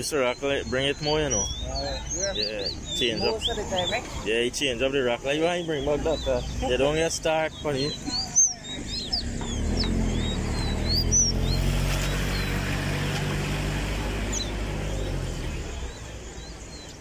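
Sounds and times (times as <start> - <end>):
songbirds chirping: 0.0 - 17.0
vehicle engine hum: 0.0 - 17.0.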